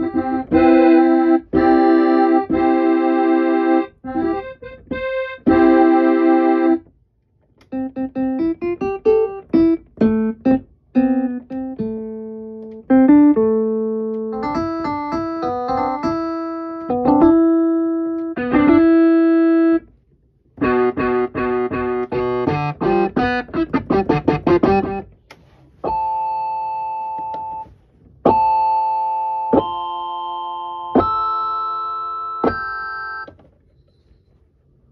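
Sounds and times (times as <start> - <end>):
electronic keyboard playing: 0.0 - 6.9, 7.6 - 19.9, 20.6 - 25.1, 25.8 - 33.3.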